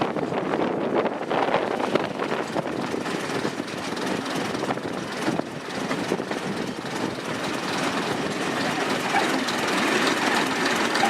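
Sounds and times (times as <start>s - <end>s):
diesel train engine running: 0.0s - 11.0s.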